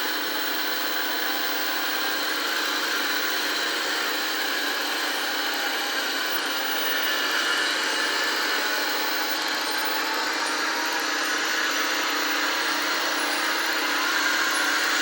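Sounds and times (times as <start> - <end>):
held whining tones: 0.2 - 15.0.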